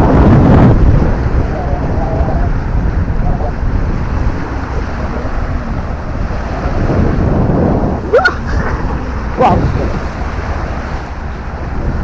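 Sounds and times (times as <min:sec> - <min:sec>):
small waves washing on shore: 0:00.0 - 0:12.0
wind buffeting microphone: 0:00.0 - 0:12.0.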